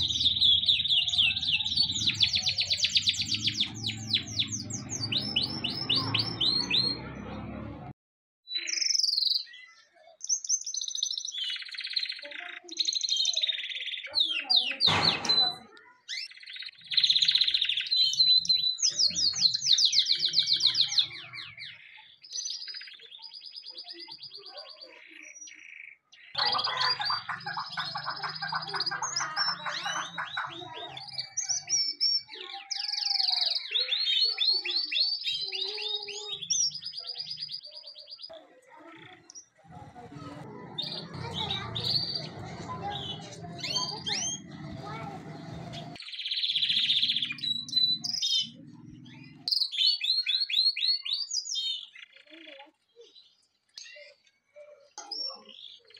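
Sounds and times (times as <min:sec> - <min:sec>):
canary singing trills: 0:00.0 - 0:07.5, 0:08.5 - 0:55.9.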